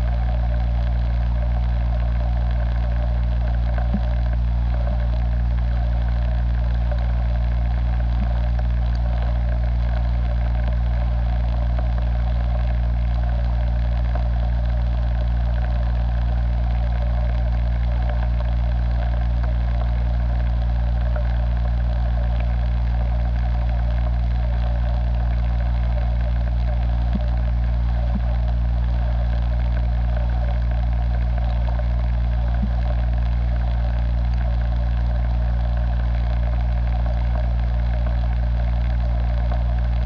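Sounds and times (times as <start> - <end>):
machine hum with buzzing: 0.0 - 40.0.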